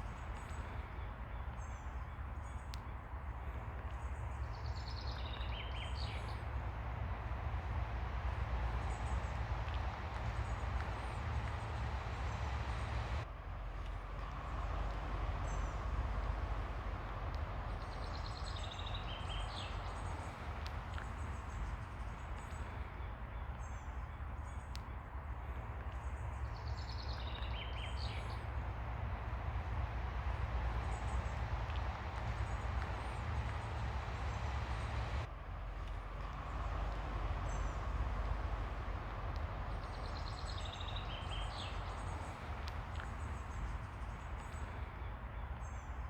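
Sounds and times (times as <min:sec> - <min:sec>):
birds chirping: 0:00.0 - 0:13.3, 0:14.1 - 0:46.0
low rumble: 0:03.4 - 0:45.9.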